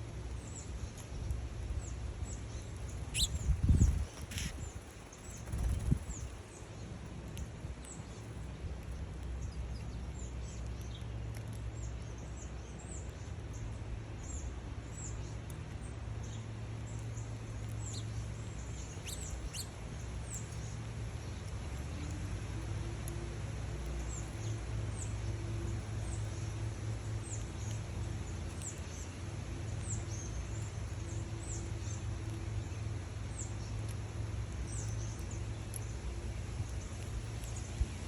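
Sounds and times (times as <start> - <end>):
small birds chirping: 0.0 - 38.0
steady low rumble: 0.0 - 38.0.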